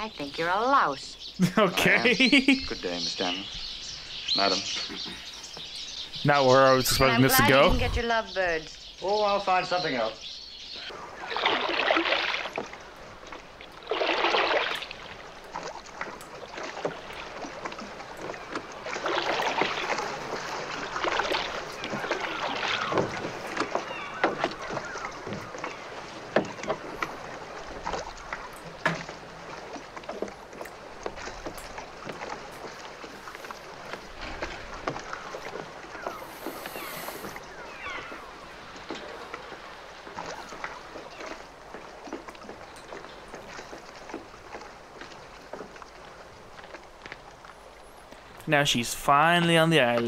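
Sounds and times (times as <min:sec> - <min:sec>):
oar splashes: 0:00.0 - 0:50.0
water sloshing: 0:00.0 - 0:50.0.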